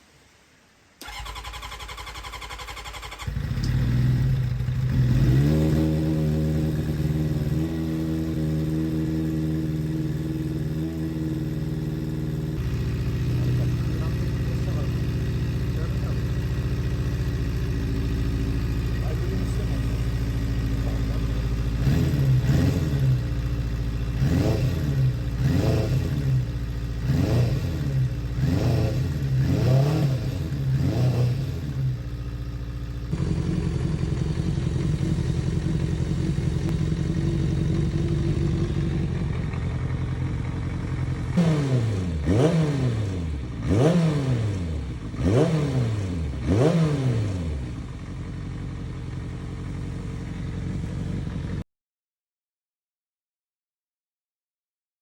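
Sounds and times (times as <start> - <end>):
motorcycle engine revving and idling: 1.0 - 51.6.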